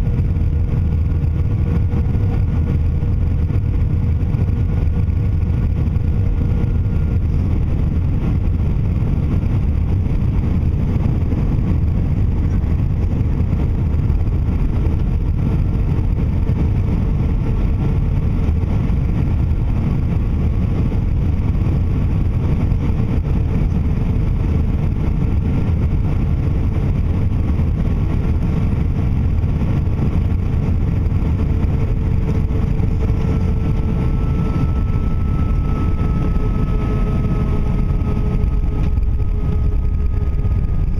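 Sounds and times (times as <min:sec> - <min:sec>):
airliner cabin engine rumble: 0:00.0 - 0:40.9
faint whine: 0:00.0 - 0:40.9.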